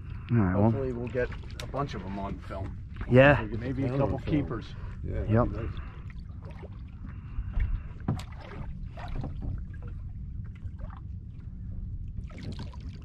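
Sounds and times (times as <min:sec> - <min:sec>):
low steady boat rumble: 0:00.0 - 0:13.0.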